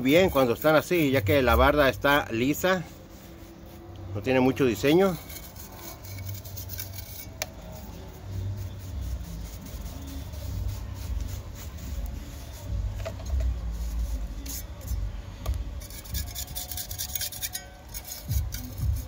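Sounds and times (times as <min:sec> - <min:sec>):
trowel scraping cement wall: 0:00.0 - 0:15.0, 0:15.8 - 0:19.0.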